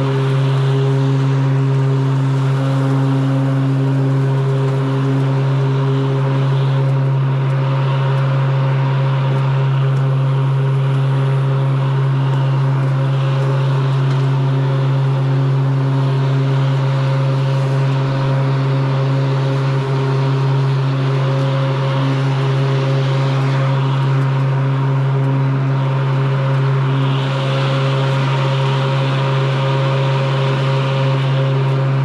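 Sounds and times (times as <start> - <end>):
electric lawn mower hum: 0.0 - 32.0.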